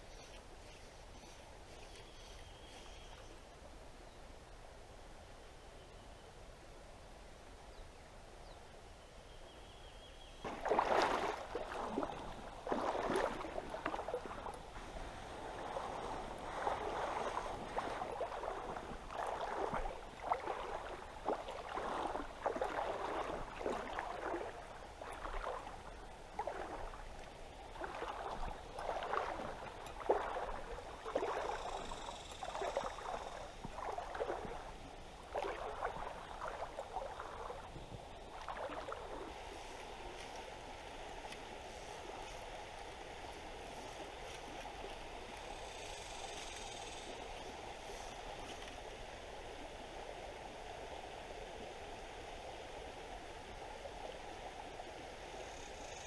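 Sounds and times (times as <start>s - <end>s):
water sloshing with wading steps: 10.4s - 55.4s.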